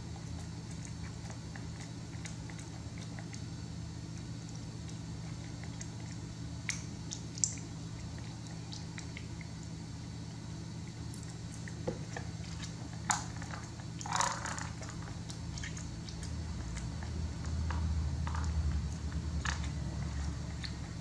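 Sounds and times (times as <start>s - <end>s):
monkey chewing: 0.0s - 9.8s, 10.8s - 21.0s
steady low hum: 0.0s - 21.0s.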